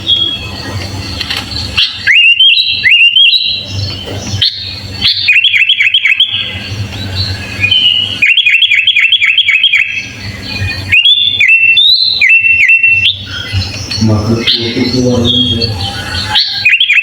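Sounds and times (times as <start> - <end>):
bird chirping: 0.0 - 17.0
bird whistling: 0.0 - 17.0.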